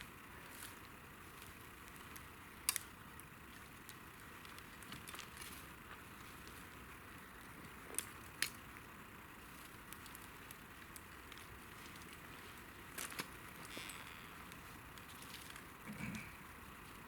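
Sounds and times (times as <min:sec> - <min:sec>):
campfire crackling: 0:00.0 - 0:17.0
fire popping: 0:00.0 - 0:17.0.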